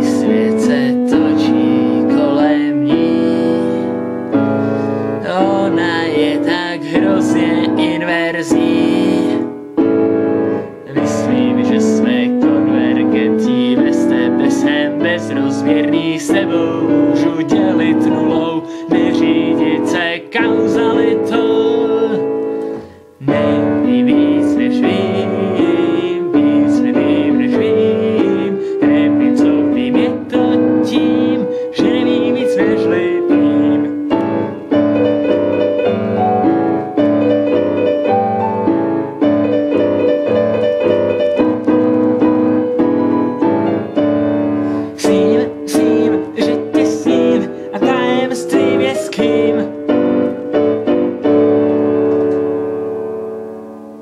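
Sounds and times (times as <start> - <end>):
piano chords and melody: 0.0 - 54.0.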